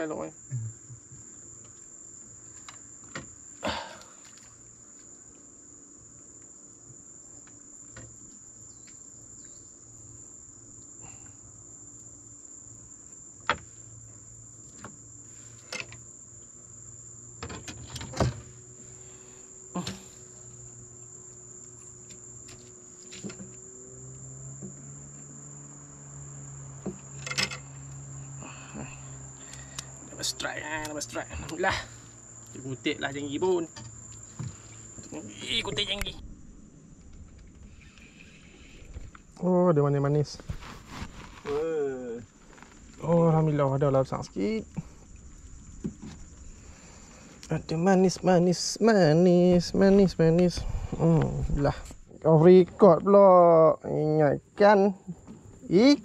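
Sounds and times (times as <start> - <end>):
insect chirring: 0.0 - 56.0.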